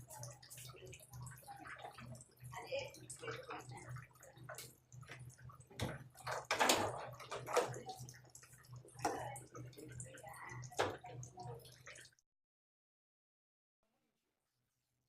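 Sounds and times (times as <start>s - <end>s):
water splashing and dripping: 0.0s - 12.2s.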